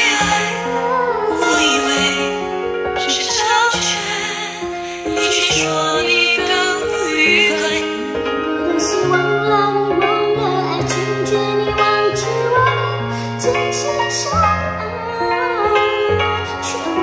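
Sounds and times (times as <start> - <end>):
woman singing pop ballad: 0.0 - 17.0.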